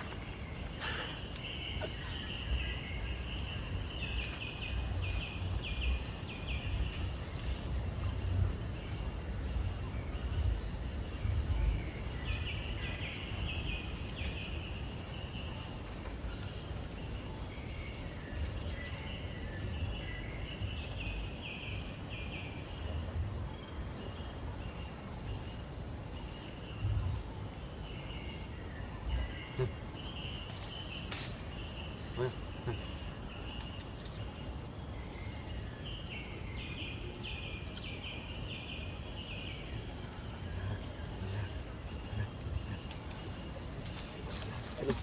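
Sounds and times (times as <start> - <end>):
birds chirping: 0.0 - 45.0
insects trilling: 0.0 - 45.0.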